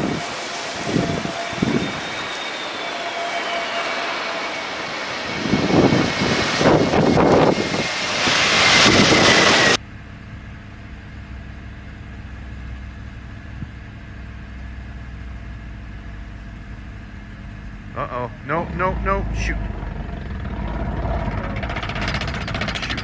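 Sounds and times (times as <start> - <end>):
jet engine whine: 0.0 - 23.0
low propeller engine hum: 0.0 - 23.0.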